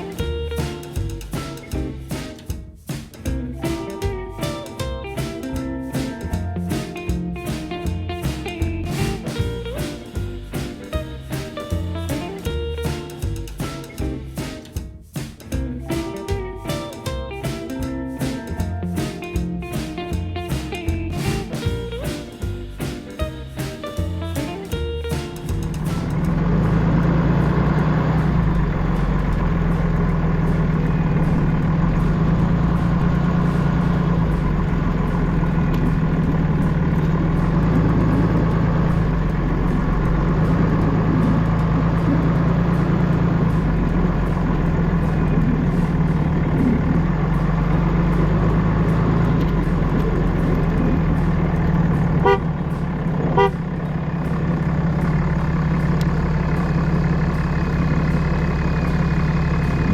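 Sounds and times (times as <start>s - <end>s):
engine humming: 0.0s - 2.4s, 3.2s - 14.7s, 15.5s - 59.9s.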